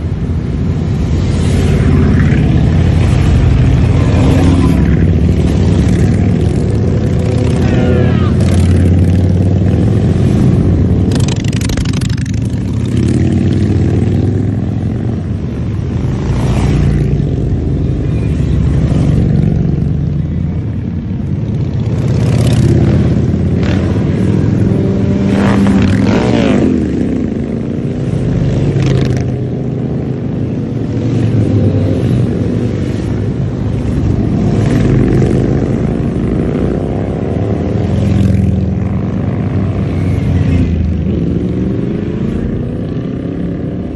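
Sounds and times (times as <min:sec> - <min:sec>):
motorcycles passing: 0:00.0 - 0:43.9.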